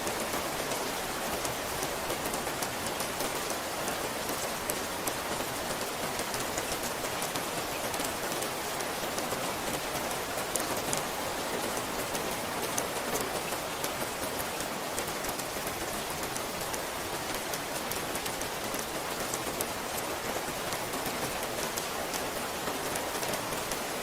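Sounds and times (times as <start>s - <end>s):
raindrops ticking on a surface: 0.0s - 24.0s
steady rain: 0.0s - 24.0s.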